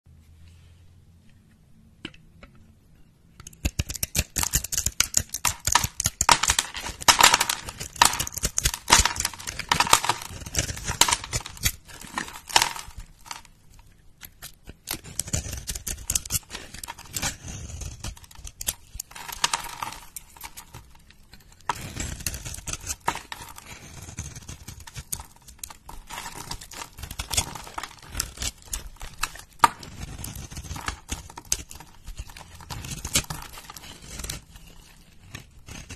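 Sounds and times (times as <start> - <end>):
soap crackling and crunching: 3.5 - 35.9.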